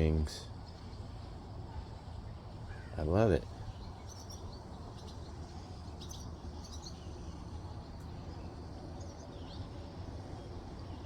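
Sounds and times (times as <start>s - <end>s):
faint bird chirps: 1.7s - 11.0s.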